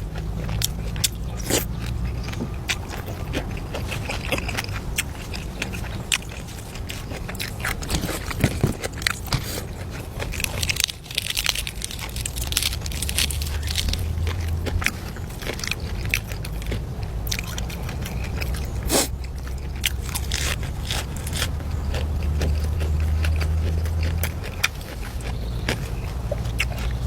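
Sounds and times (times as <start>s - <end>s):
person chewing and crunching: 0.0s - 27.0s.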